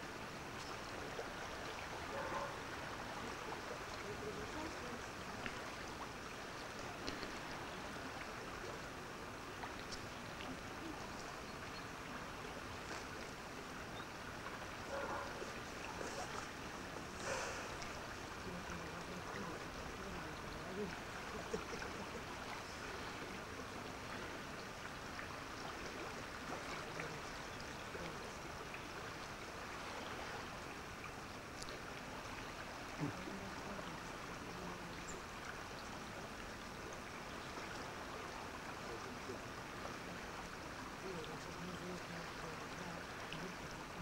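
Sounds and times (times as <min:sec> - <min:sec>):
faint distant voices: 0:00.0 - 0:14.2, 0:14.8 - 0:30.6, 0:31.5 - 0:44.0
river water rushing: 0:00.0 - 0:44.0.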